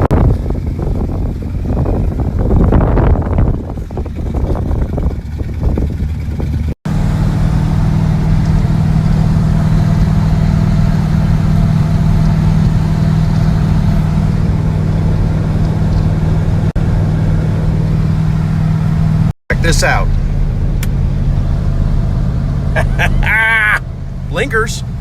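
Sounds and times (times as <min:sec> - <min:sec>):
pickup truck engine running: 0:00.0 - 0:25.0.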